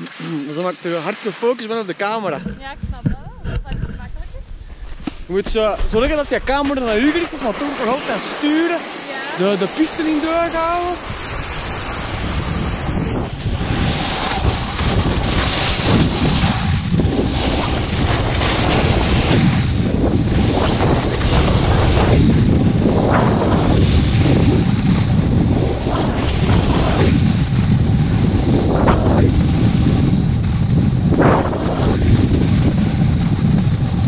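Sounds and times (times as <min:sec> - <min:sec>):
skis hissing on snow: 0:00.0 - 0:02.8, 0:04.1 - 0:34.0
wind on camera microphone: 0:02.3 - 0:34.0.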